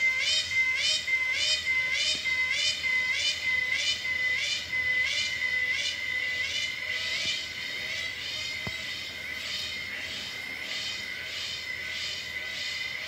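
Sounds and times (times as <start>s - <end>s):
hornbill calling: 0.0s - 13.0s.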